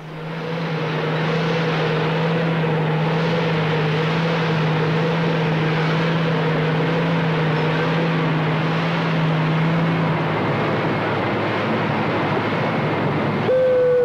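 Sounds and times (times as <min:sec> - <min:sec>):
industrial machinery droning: 0:00.0 - 0:14.0.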